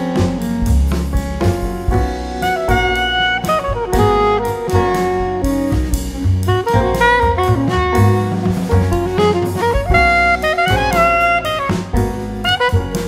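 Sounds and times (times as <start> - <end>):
jazz music: 0.0 - 13.0.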